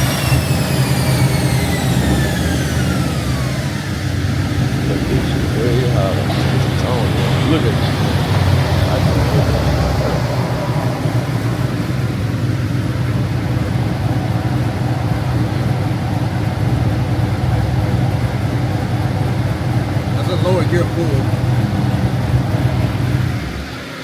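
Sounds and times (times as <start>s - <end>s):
car engine droning steadily: 0.0s - 24.0s.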